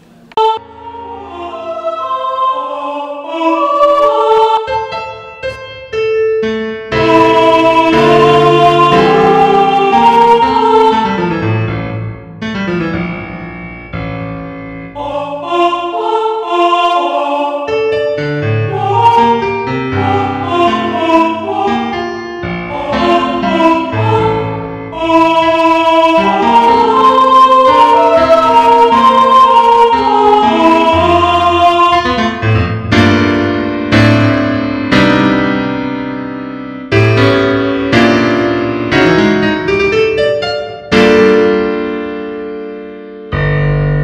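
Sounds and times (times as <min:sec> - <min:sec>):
piano music: 0:00.0 - 0:16.9, 0:17.6 - 0:44.0.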